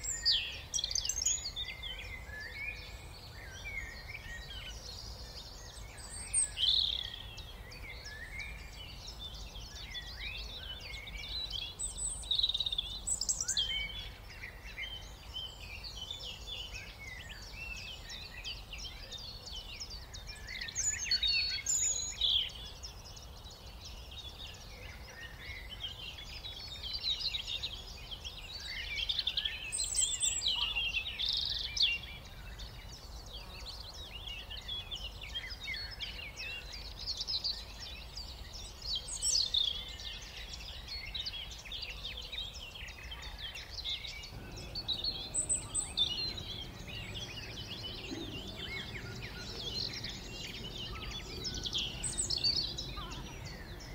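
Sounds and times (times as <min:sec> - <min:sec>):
songbirds chirping and twittering: 0:00.0 - 0:53.9.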